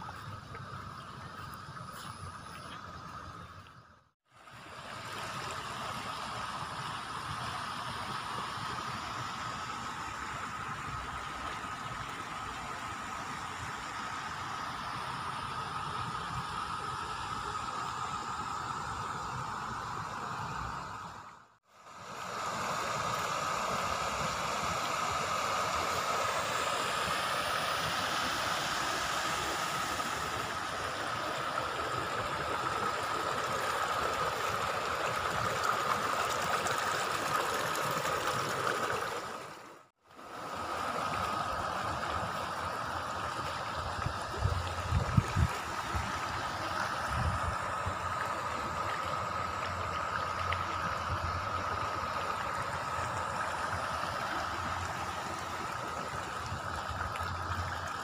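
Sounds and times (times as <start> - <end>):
water flowing in channels: 0.0 - 58.0.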